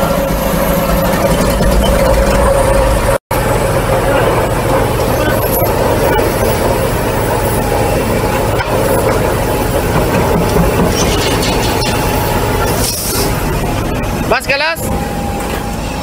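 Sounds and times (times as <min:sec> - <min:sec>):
diesel machinery running: 0:00.0 - 0:16.0.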